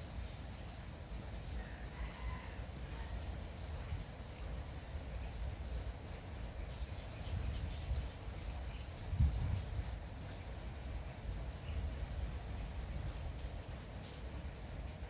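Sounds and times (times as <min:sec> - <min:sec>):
light drizzle hissing: 0:00.0 - 0:15.0.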